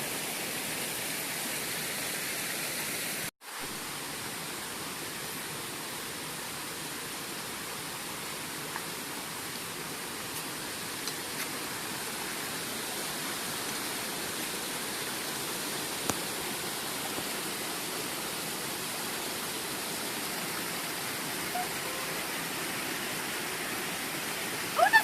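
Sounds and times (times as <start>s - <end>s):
water rushing over waterfall: 0.0s - 25.0s.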